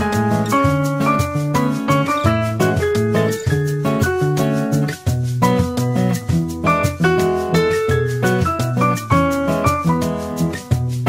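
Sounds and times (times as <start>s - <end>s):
upbeat piano music with beat: 0.0s - 11.0s.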